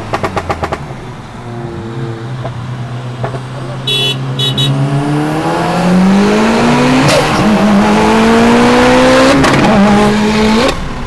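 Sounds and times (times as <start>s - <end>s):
car engine at full throttle: 0.0s - 11.0s.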